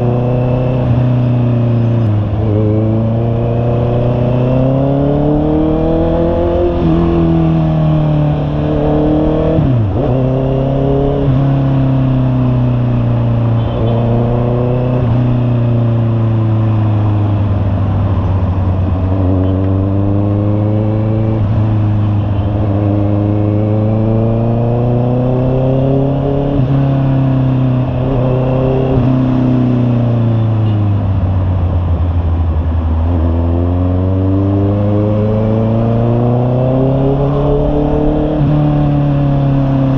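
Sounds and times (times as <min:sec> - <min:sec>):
motorcycle engine revving: 0:00.0 - 0:31.8, 0:32.4 - 0:39.9.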